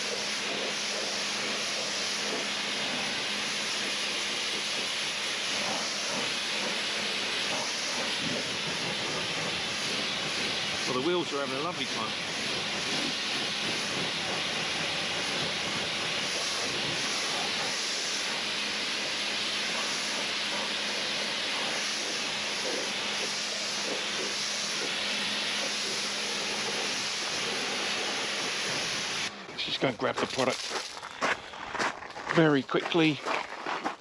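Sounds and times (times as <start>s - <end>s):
continuous spraying hiss: 0.0s - 31.0s.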